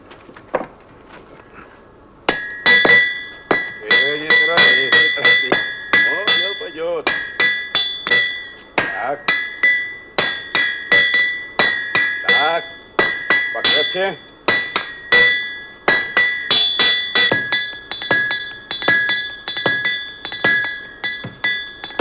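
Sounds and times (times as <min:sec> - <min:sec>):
hammers striking metal on anvil: 0:02.3 - 0:22.0.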